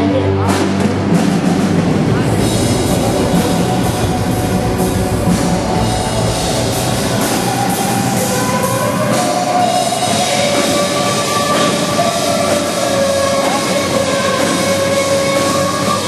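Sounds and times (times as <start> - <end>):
distorted guitars: 0.0 - 16.0
drum kit: 0.0 - 16.0
rock band playing: 0.0 - 16.0.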